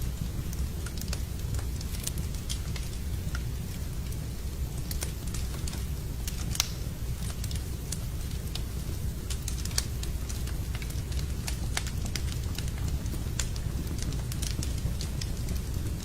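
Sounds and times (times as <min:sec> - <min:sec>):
fire low rumble: 0:00.0 - 0:16.0
wood fire crackling: 0:00.0 - 0:16.0.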